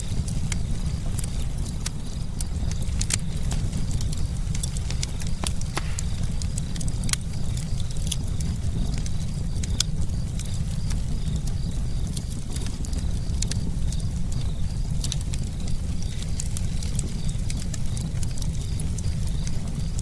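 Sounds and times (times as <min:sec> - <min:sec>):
fire roaring low: 0:00.0 - 0:20.0
wood crackling and popping: 0:00.0 - 0:20.0.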